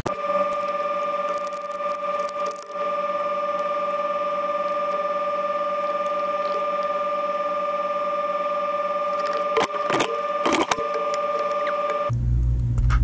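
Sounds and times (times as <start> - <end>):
steady electronic tone: 0.0 - 12.2.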